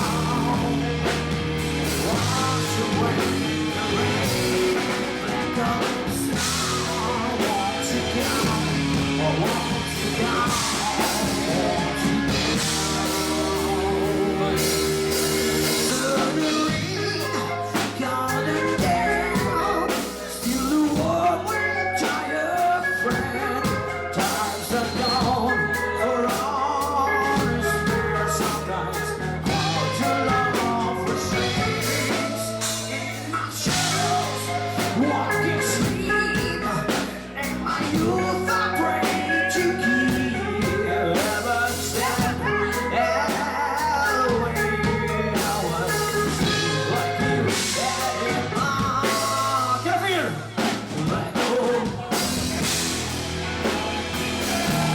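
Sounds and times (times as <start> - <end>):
bass: 0.0 - 54.9
drums: 0.0 - 54.9
electric guitar: 0.0 - 54.9
person singing: 0.0 - 54.9.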